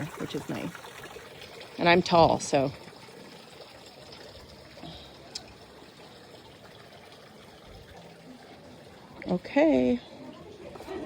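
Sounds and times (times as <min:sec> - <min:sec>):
water fountain trickling: 0:00.0 - 0:11.0.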